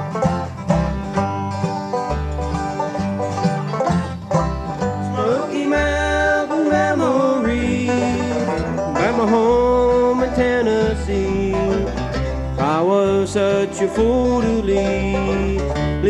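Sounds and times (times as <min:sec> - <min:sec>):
banjo rolling: 0:00.0 - 0:16.0
mandolin: 0:00.0 - 0:16.0
strummed guitar: 0:00.0 - 0:16.0
upright bass walking: 0:00.0 - 0:16.0
sliding lead line: 0:00.1 - 0:15.7.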